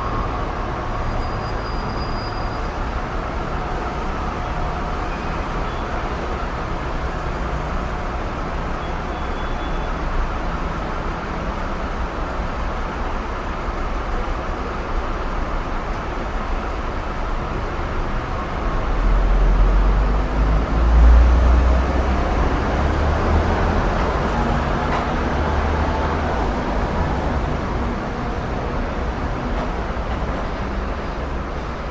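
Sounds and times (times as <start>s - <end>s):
heavy vehicle engine rumble: 0.0s - 31.9s
passing city traffic: 0.0s - 31.9s.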